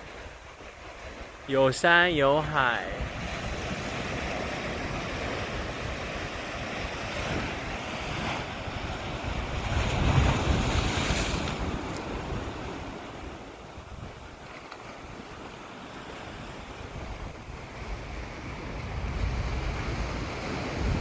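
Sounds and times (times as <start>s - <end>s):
sea waves washing on shore: 0.0s - 21.0s
wind buffeting microphone: 2.8s - 21.0s.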